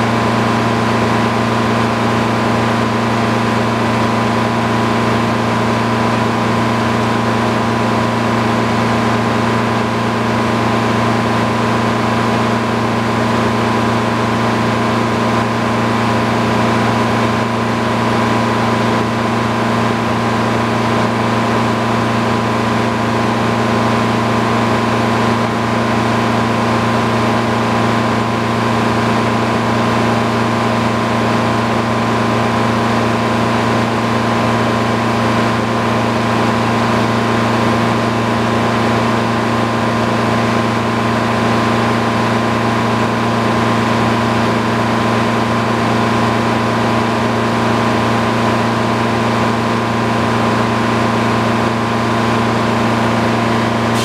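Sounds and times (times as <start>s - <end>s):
sawmill engine humming: 0.0s - 54.0s.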